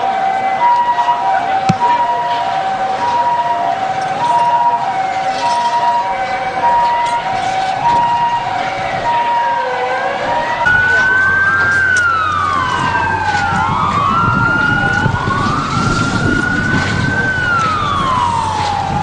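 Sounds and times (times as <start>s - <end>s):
loud wailing siren: 0.0s - 19.0s
slow wailing siren: 0.0s - 19.0s
two-tone hi-lo siren: 0.0s - 19.0s.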